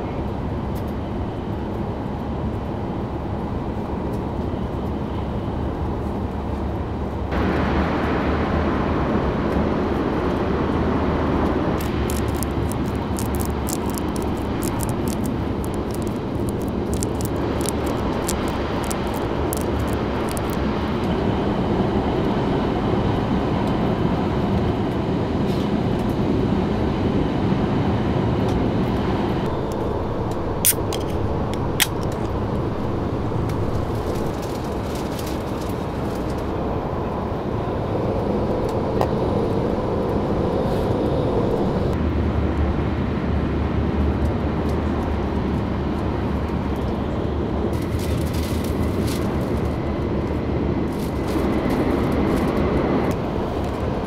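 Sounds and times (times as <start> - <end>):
train rumble inside carriage: 0.0 - 54.0.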